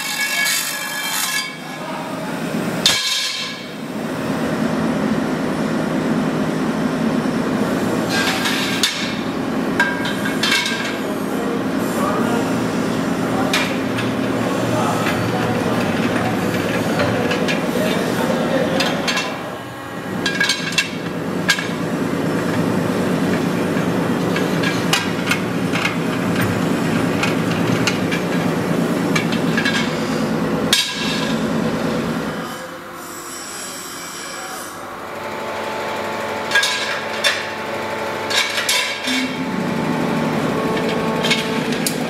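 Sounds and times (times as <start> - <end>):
machine grinding rumble: 1.0 - 33.0, 34.8 - 42.0.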